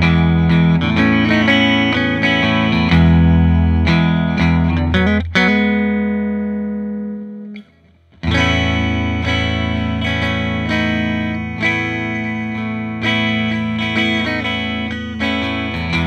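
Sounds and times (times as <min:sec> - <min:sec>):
electric guitar chords strummed: 0:00.0 - 0:16.0.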